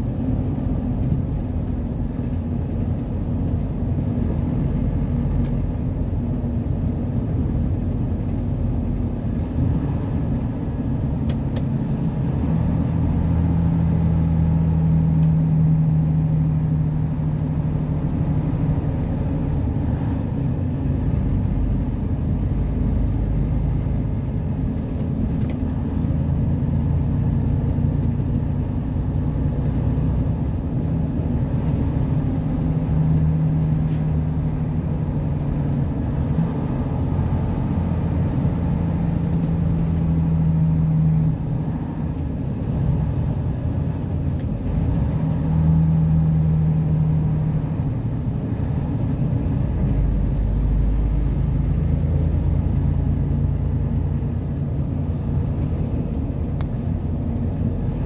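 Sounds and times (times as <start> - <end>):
vehicle engine and tyres droning: 0.0 - 58.0.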